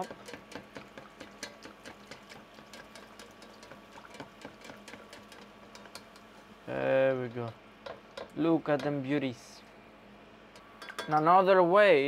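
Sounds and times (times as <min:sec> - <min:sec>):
oil crackling and sizzling: 0:00.0 - 0:11.0.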